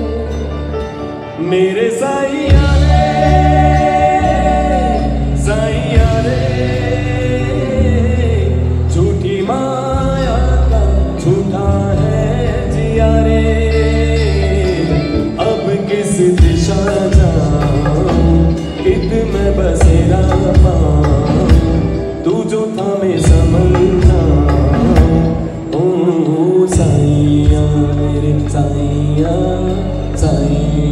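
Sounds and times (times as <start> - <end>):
live band over speakers: 0.0 - 30.9
man singing: 0.0 - 30.9.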